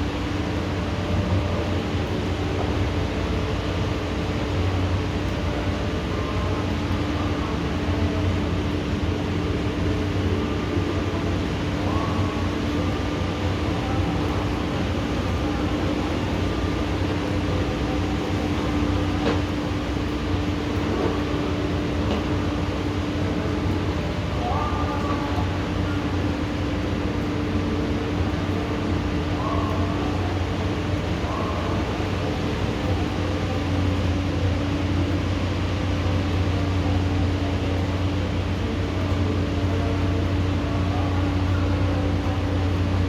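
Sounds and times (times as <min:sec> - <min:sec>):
constant low hum: 0:00.0 - 0:43.0
heavy rain rushing: 0:00.0 - 0:43.0.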